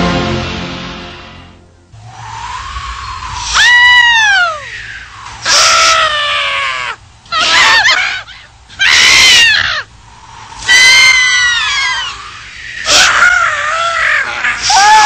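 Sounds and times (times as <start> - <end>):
high-pitched screams: 2.0 - 15.0.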